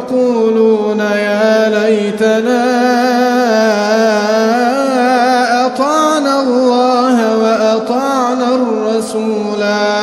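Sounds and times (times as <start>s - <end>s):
man chanting recitation: 0.0s - 10.0s.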